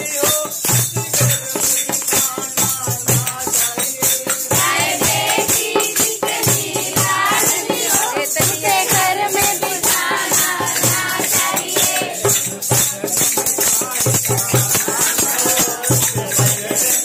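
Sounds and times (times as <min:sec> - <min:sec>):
shaken rattle percussion: 0:00.0 - 0:17.0
voices singing a devotional song: 0:00.0 - 0:17.0.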